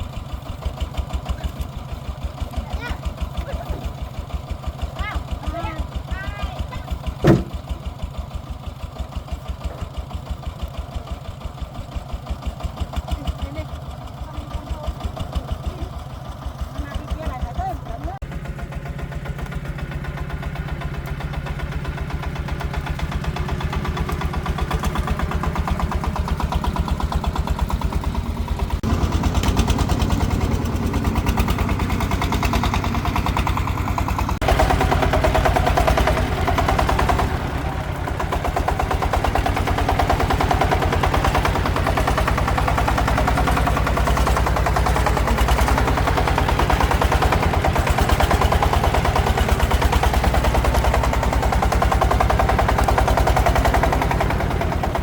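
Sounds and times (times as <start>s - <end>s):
single-cylinder diesel engine running: 0.0s - 55.0s.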